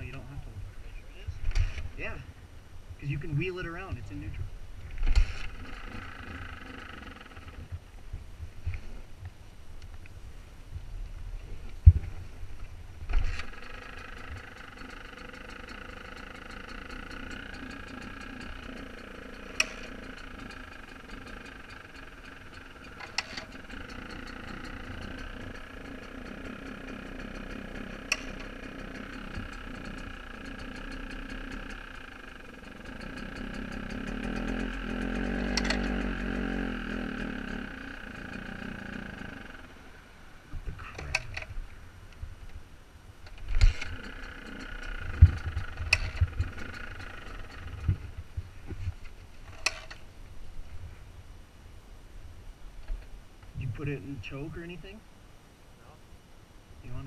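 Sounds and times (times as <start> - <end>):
dirt bike engine idling: 0.0 - 9.8, 11.6 - 51.0.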